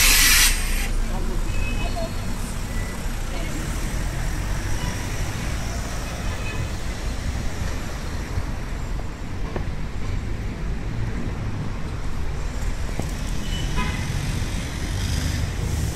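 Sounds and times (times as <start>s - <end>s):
city street traffic: 0.0s - 15.9s.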